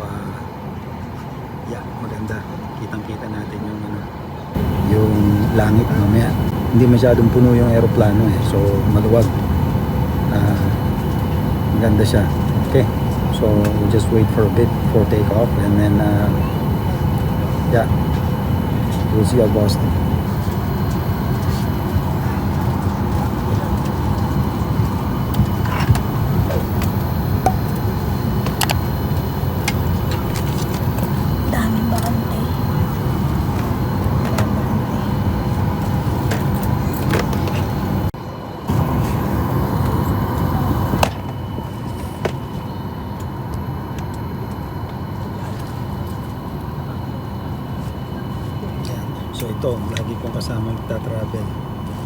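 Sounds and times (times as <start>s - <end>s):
airliner cabin rumble: 0.0s - 52.0s.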